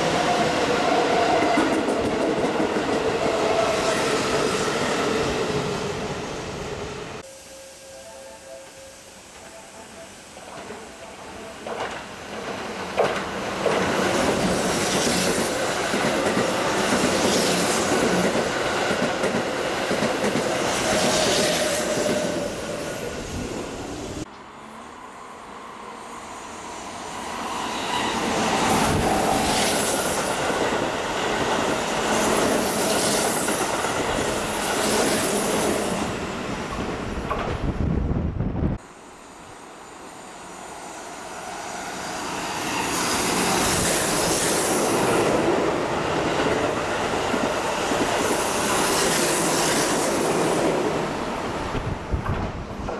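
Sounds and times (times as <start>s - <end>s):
electric train passing: 0.0s - 52.9s.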